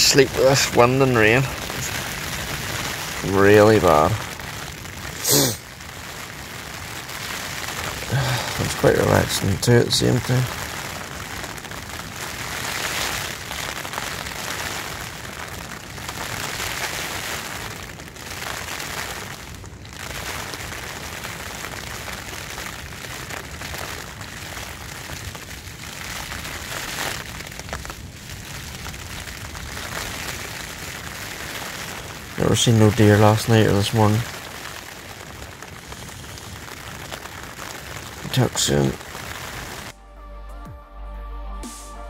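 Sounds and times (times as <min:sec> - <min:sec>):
rain patter on tent fabric: 0:00.0 - 0:39.9.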